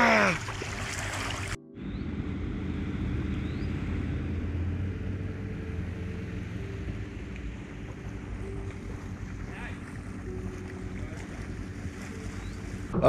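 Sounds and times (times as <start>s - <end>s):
engine running: 0.2s - 13.0s.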